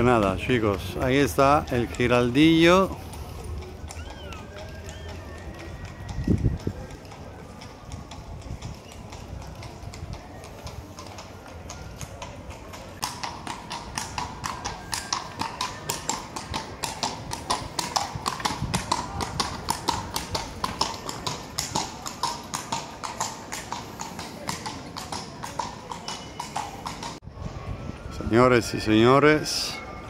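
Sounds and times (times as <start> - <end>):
hooves clip-clopping on stone: 0.0 - 27.2.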